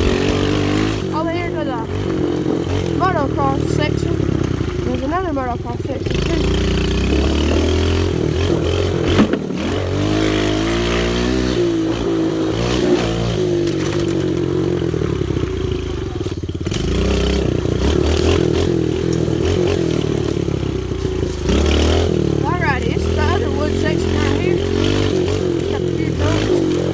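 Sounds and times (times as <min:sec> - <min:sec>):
pit bike engine revving: 0:00.0 - 0:26.9.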